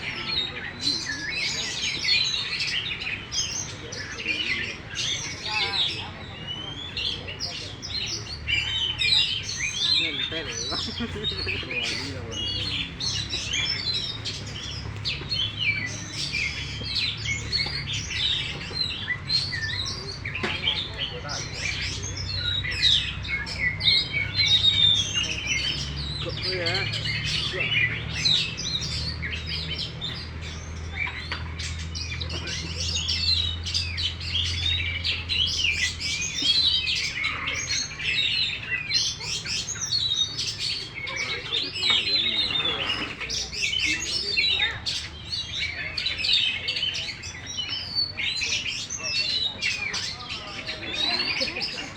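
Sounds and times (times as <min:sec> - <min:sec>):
magpie-robin singing: 0:00.0 - 0:51.9.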